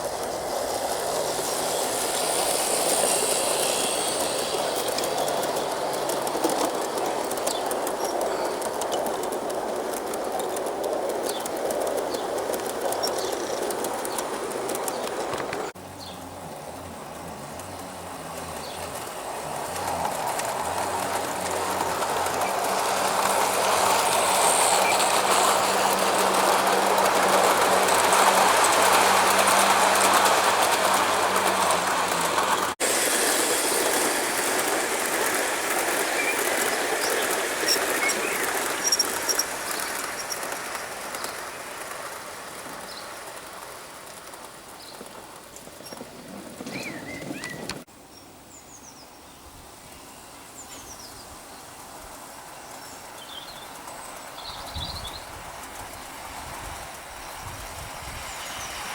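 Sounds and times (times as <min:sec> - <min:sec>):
low hum from locomotive: 0:00.0 - 0:58.9
model train wheels rumbling on rails: 0:00.0 - 0:58.9.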